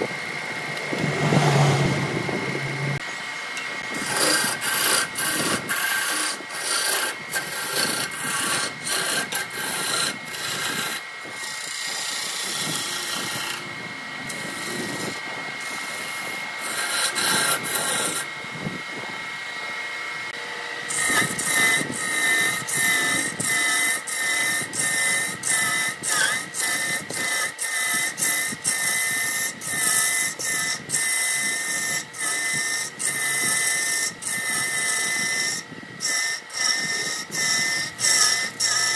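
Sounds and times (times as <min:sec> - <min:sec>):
gouge scraping spinning wood: 0:00.0 - 0:38.9
wood lathe high whine: 0:00.0 - 0:38.9.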